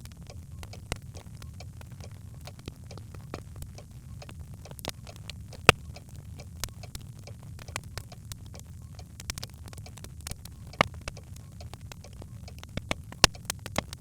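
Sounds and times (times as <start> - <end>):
logs crackling in fireplace: 0.0 - 14.0.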